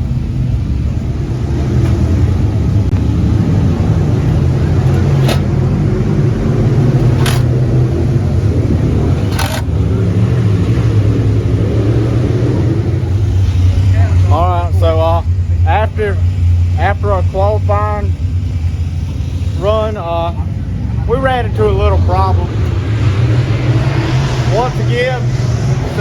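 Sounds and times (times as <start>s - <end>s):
motor engines rumbling: 0.0s - 26.0s.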